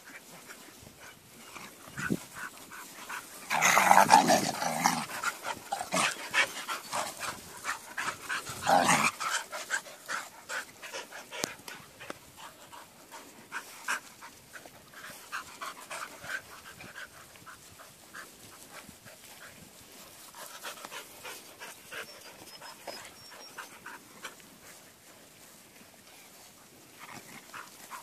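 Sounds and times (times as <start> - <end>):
dogs panting: 0.0 - 28.0.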